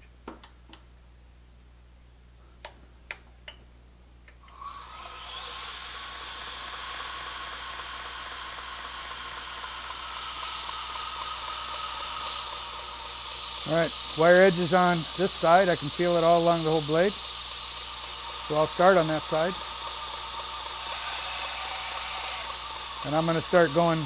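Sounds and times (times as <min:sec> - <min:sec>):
belt grinder whirring: 0:04.4 - 0:24.0.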